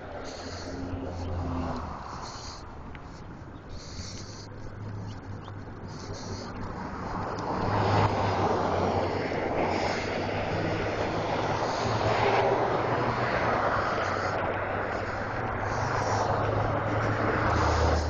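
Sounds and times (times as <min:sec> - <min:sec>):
passing vehicle engine: 0:00.0 - 0:18.0.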